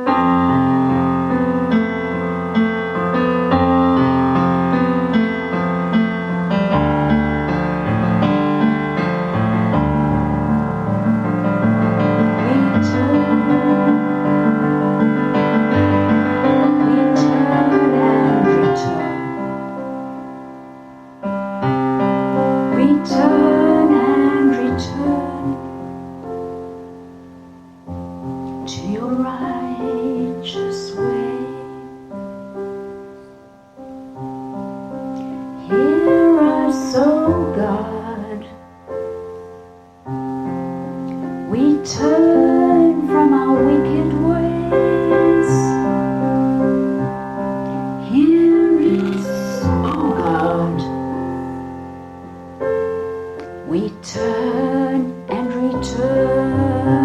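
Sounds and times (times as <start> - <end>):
piano chords: 0.0 - 57.0.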